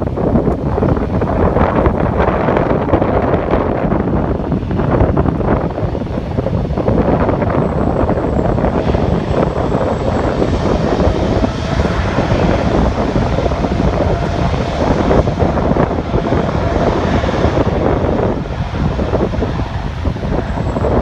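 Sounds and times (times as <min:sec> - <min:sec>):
jet airliner engines passing: 0:00.0 - 0:21.0
wind buffeting the microphone: 0:00.0 - 0:21.0.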